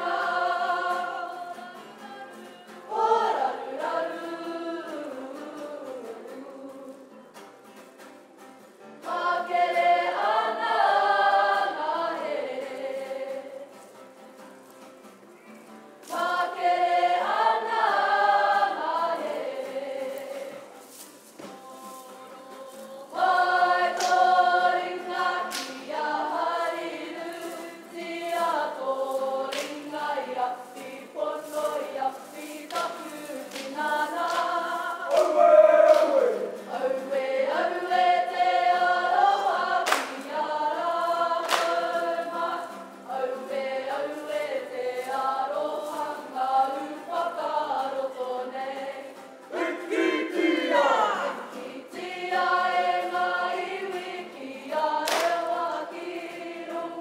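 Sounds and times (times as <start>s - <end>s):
group of voices singing: 0.0s - 7.2s, 9.0s - 13.8s, 16.0s - 57.0s.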